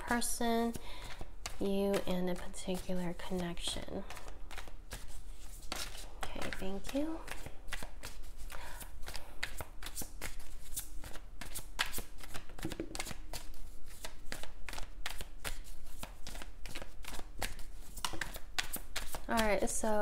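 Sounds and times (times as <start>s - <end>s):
cards being shuffled: 0.1s - 19.9s.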